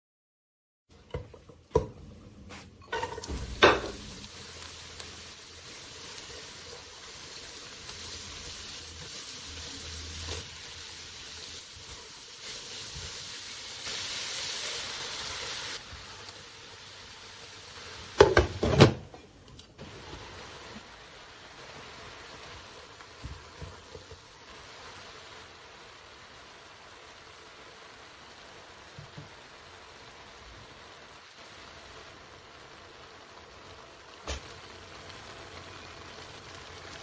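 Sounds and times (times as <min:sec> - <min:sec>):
vegetables sizzling in a pot: 0:00.9 - 0:37.0.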